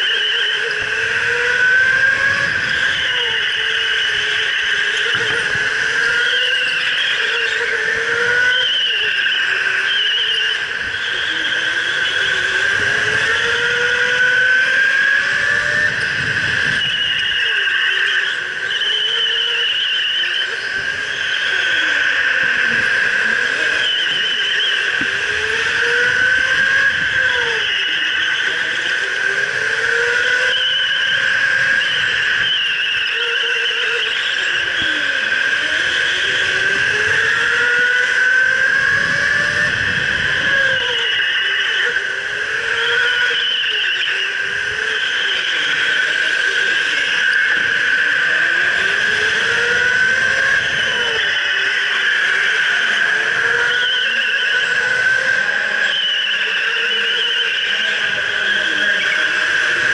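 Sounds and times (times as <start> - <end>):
electric go-kart motor whine: 0.0 - 59.9
lower whine rising and falling: 0.0 - 59.9.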